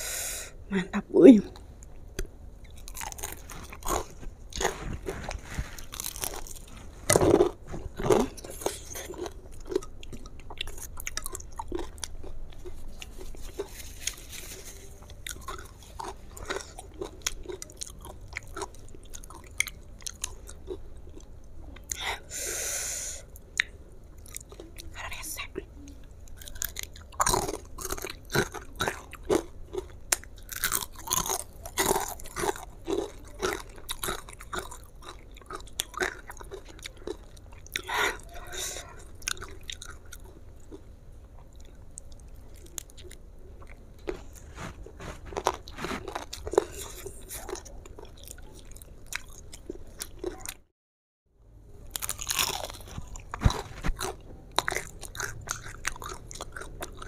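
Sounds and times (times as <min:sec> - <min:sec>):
crunching and chewing fried food: 0:01.5 - 0:50.6, 0:51.7 - 0:57.0.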